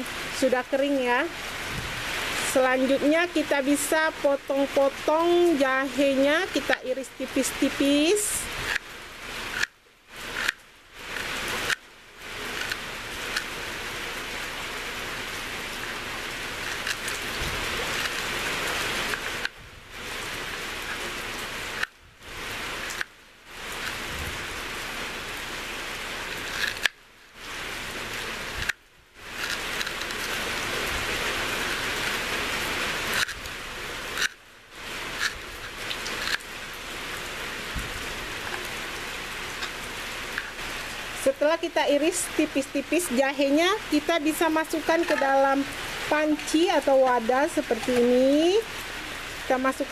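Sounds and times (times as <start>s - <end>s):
steady hiss: 0.0s - 49.9s.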